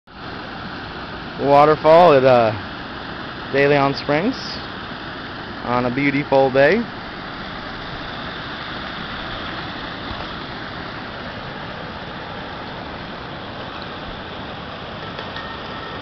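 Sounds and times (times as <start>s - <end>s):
waterfall rushing over rock: 0.1s - 16.0s.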